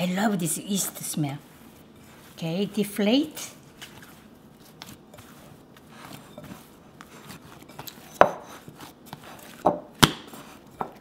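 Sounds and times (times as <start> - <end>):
dough squishing: 0.0 - 11.0.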